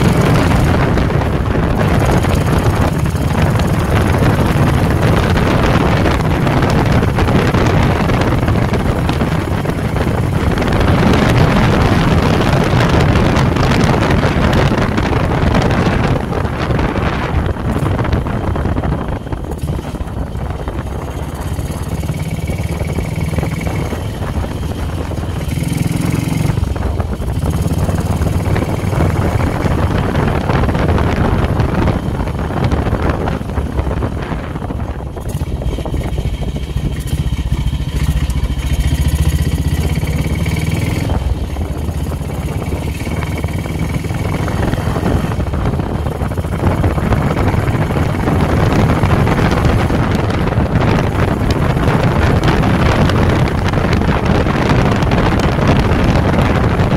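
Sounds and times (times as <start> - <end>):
motorcycle engine rumbling: 0.0 - 56.9
wind on microphone: 0.0 - 56.9.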